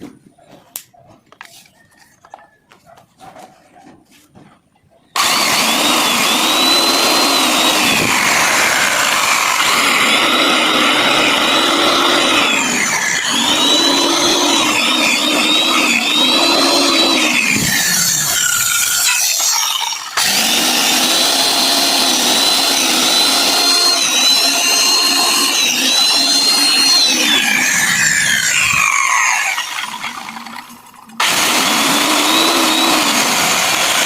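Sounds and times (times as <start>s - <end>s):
electric saw whining: 5.2s - 34.0s.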